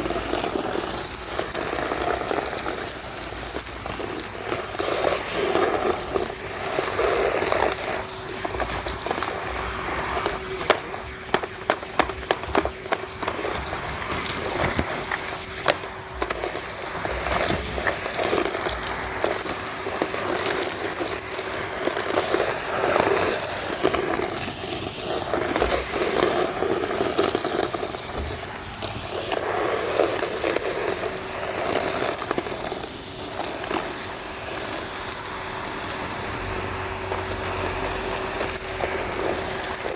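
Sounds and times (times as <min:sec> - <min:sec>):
debris rattling up vacuum hose: 0:00.0 - 0:39.9
vacuum cleaner running: 0:00.0 - 0:39.9.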